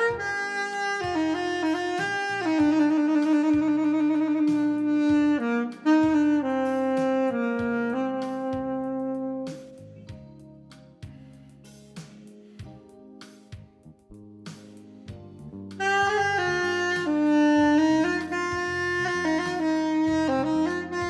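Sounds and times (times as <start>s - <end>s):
instrumental pop music: 0.0s - 21.0s.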